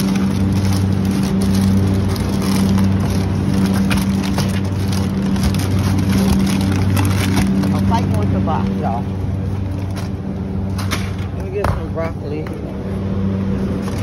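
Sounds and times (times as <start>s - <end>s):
freezer cases humming: 0.0s - 14.0s.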